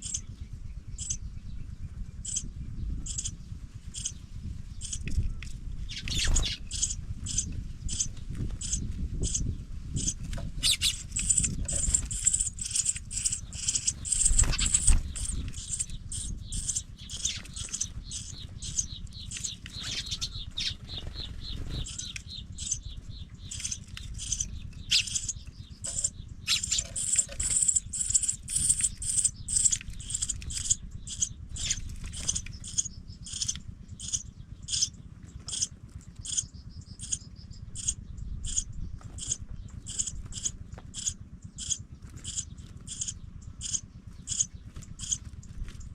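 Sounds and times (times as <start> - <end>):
nestlings cheeping: 0.0 - 0.3, 1.0 - 1.2, 2.2 - 45.9.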